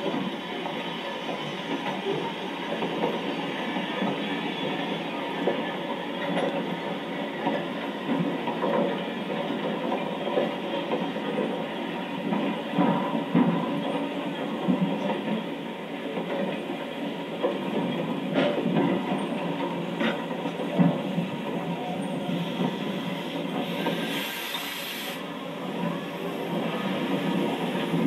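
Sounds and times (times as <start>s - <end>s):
freight train wheels rolling on rails: 0.0s - 28.0s.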